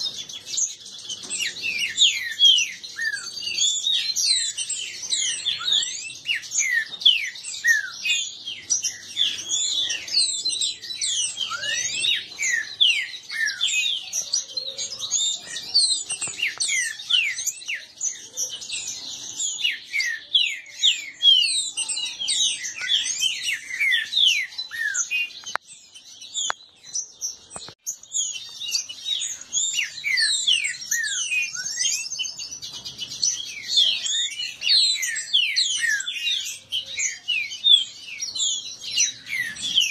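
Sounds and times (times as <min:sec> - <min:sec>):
birds whistling song: 0:00.0 - 0:39.9.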